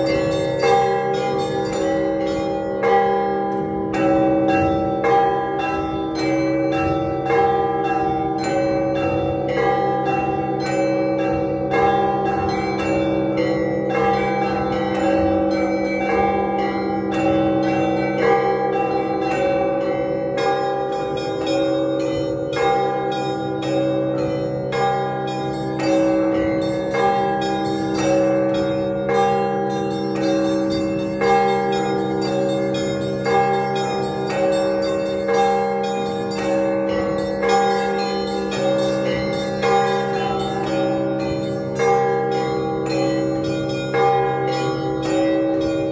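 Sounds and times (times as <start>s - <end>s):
deep church bells ringing: 0.0s - 45.9s
small church bells ringing: 0.0s - 45.9s.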